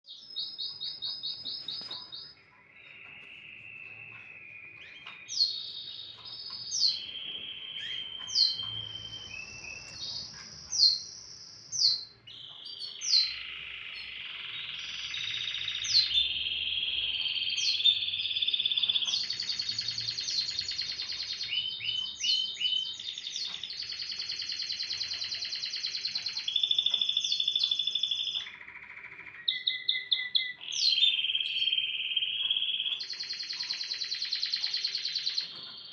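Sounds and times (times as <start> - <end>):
canary singing trills: 0.1 - 35.9.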